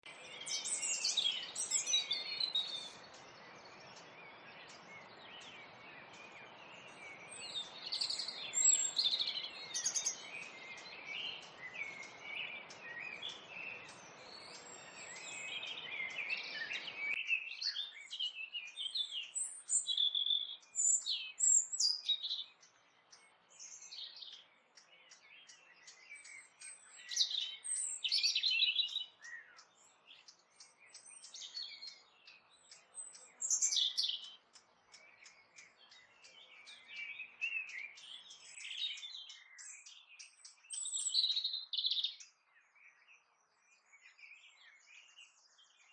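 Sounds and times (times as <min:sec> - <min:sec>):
songbirds chirping and singing: 0:00.0 - 0:45.9.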